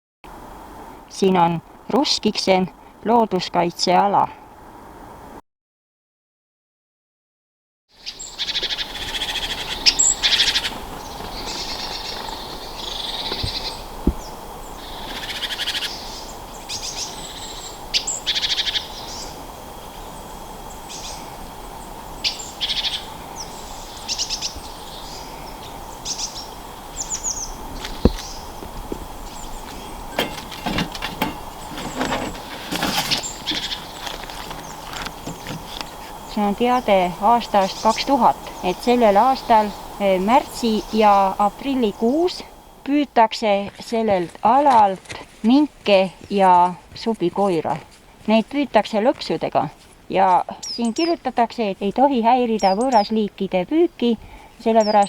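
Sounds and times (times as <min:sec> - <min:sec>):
faint steady background tone: 0:00.3 - 0:05.4, 0:08.0 - 0:55.0
small birds chirping: 0:08.0 - 0:55.0.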